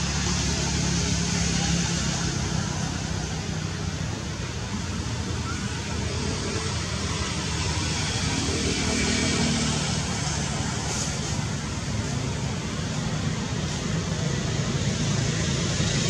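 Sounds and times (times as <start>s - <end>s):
rushing hiss: 0.0s - 16.0s.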